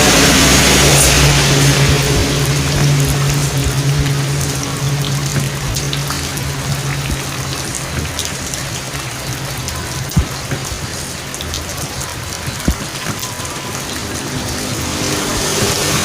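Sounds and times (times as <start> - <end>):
low vehicle engine hum: 0.0 - 16.0
raindrop hits: 0.0 - 16.0
steady rain falling: 0.0 - 16.0.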